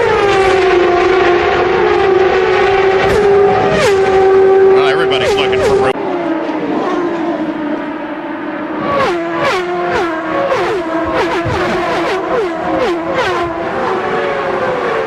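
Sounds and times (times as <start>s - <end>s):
race car engines passing at high revs: 0.0s - 15.0s.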